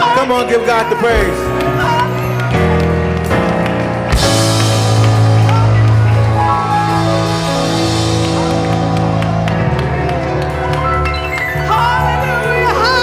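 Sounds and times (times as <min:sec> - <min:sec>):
worship band playing: 0:00.0 - 0:13.0.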